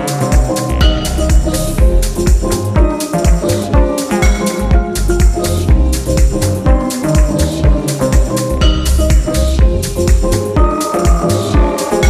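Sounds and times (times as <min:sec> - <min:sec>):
electronic dance music: 0:00.0 - 0:12.0
kick drum beat: 0:00.0 - 0:12.0.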